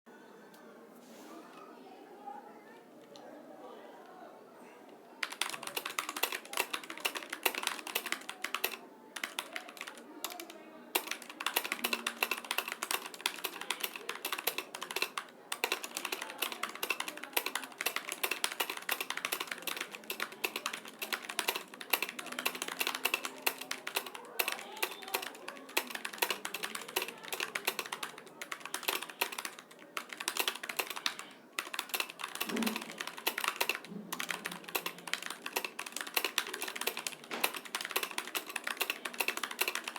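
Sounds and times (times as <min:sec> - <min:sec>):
fast keyboard typing: 0:05.2 - 0:39.9.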